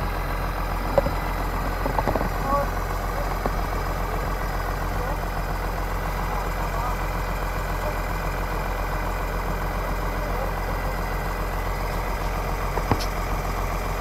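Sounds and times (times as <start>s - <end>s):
diesel excavator engine idling: 0.0s - 14.0s.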